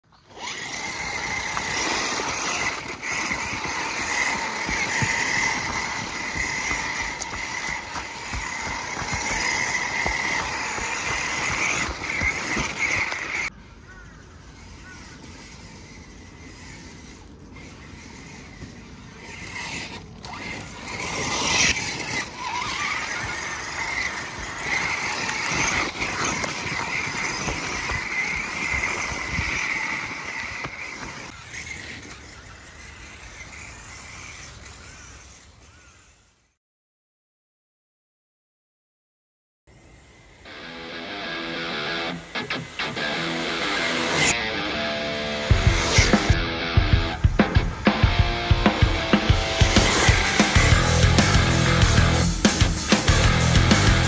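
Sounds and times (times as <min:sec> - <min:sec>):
rc car motor whine: 0:00.1 - 0:36.6, 0:39.7 - 0:54.0.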